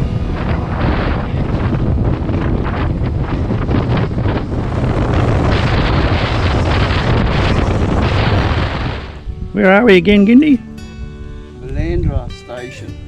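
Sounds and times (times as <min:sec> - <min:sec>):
motorcycle running and road noise: 0:00.0 - 0:12.2
wind buffeting microphone: 0:00.0 - 0:12.4.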